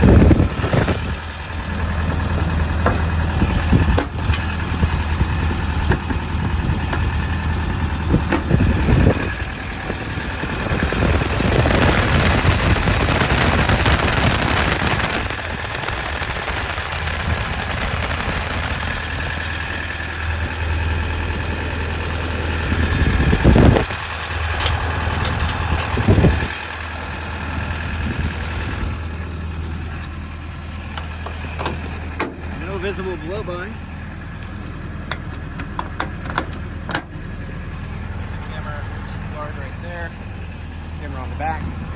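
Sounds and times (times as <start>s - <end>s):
excavator diesel engine idling: 0.0s - 41.9s.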